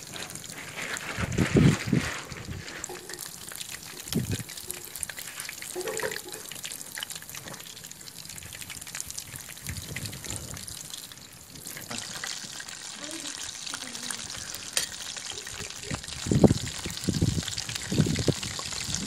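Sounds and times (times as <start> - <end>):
fish deep-frying in oil: 0.0 - 19.0.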